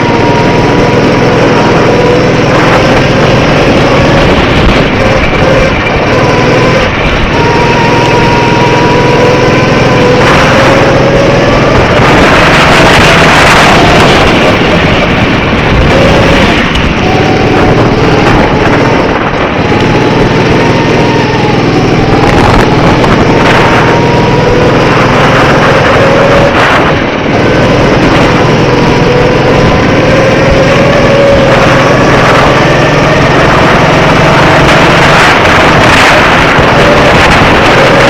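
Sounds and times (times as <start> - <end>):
go-kart engine running: 0.0 - 38.0.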